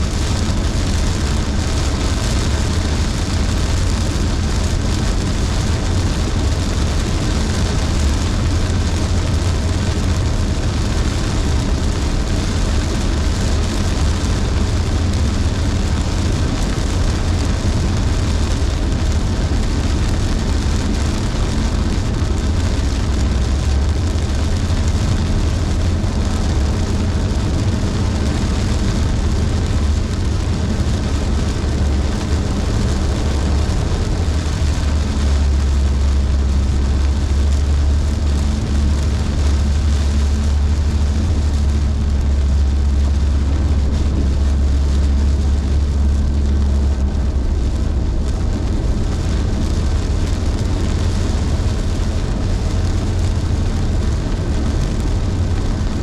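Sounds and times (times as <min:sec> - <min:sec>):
car engine and road drone: 0:00.0 - 0:56.0
heavy rain: 0:00.0 - 0:56.0
tyres hissing on wet road: 0:00.0 - 0:56.0.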